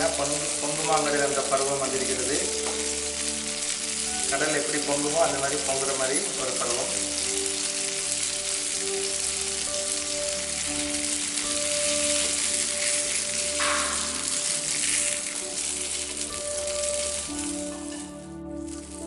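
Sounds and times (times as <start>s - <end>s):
oil sizzling and frothing in a pan: 0.0s - 19.0s.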